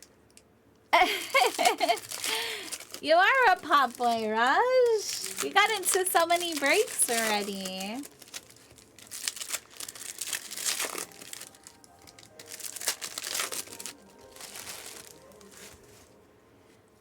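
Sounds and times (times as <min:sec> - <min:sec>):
foil wrappers crinkling: 0:01.0 - 0:16.2
soft background music: 0:02.8 - 0:17.0.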